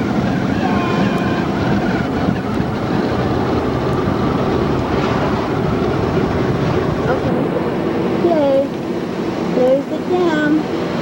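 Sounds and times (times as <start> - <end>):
vehicle engine: 0.0 - 11.0
wind noise: 0.0 - 11.0.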